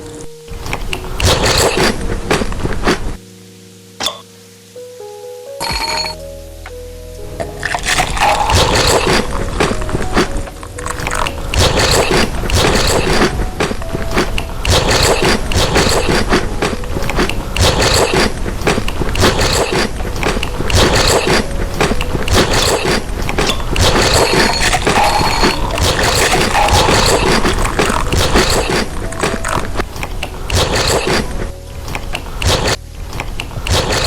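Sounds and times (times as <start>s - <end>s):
biting and chewing food: 0.6s - 3.2s, 7.6s - 34.0s.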